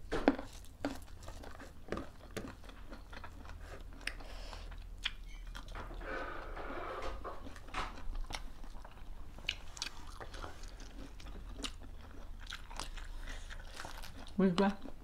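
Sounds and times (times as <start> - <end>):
chewing and lip-smacking: 0.1 - 5.8, 7.4 - 15.0.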